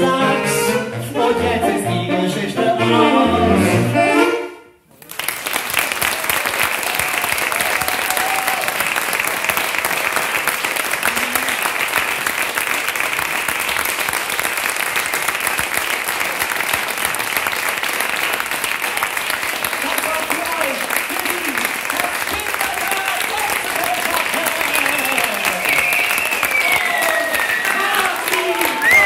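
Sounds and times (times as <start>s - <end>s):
audience applauding: 4.9s - 29.0s.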